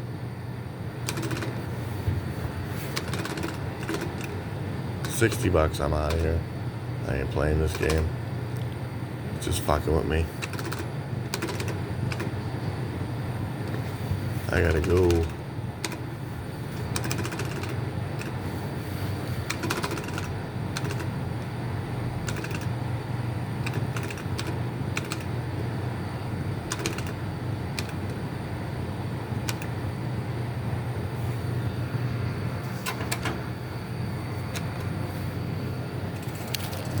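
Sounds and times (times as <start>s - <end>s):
slot machines humming: 0.8s - 8.2s, 9.3s - 36.2s.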